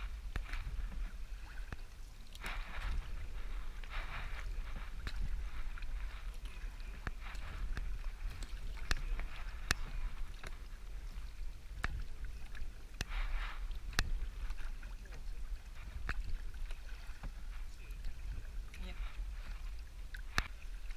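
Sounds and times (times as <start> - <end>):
paddle swishing through water: 0.0 - 20.9.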